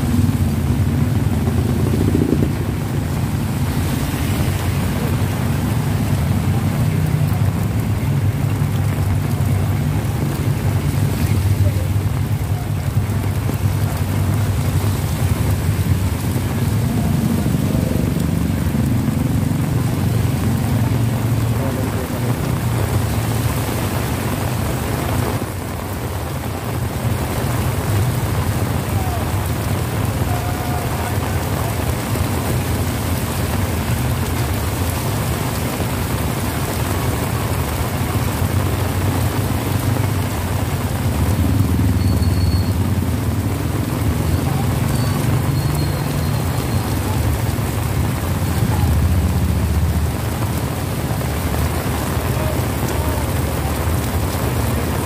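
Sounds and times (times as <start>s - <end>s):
heavy rain on street: 0.0s - 55.0s
motorcycle tricycles idling: 0.0s - 55.0s.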